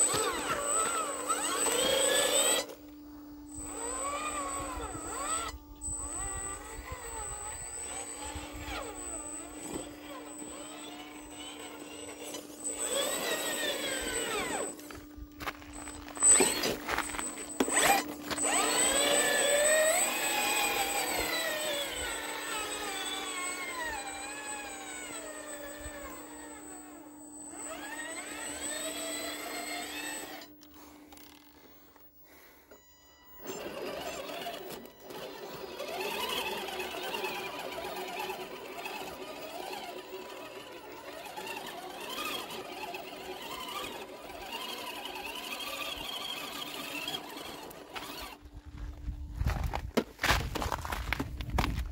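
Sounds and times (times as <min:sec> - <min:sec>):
small electric motors whining: 0:00.0 - 0:51.9.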